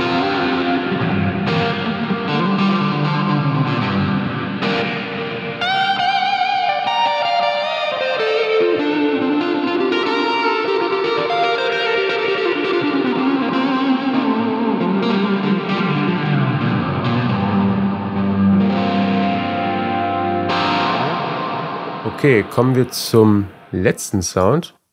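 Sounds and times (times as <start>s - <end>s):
overdriven electric guitar lead: 0.0s - 23.9s.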